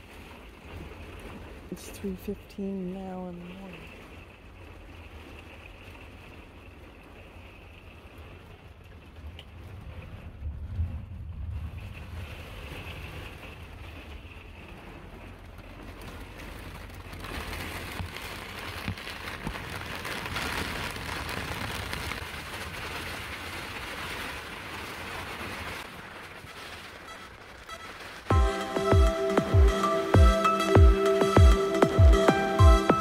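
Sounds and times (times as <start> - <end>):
heavy rain pouring: 0.0 - 33.0
wind: 0.0 - 33.0.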